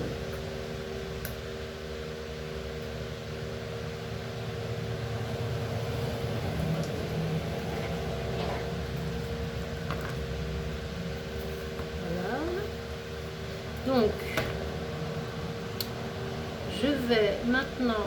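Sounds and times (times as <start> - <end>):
electric fan humming: 0.0 - 18.0.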